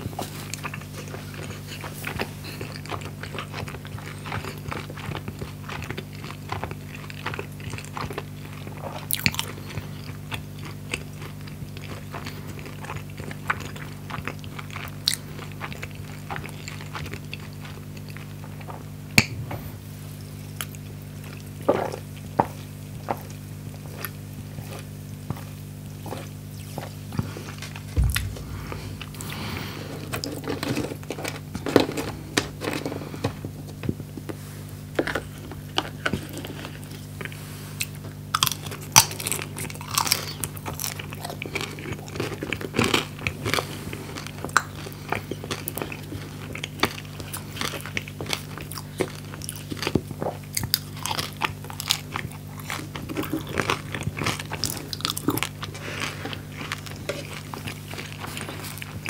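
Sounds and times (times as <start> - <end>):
crunchy chewing of fried food: 0.0 - 59.0
low electrical hum: 0.0 - 59.0.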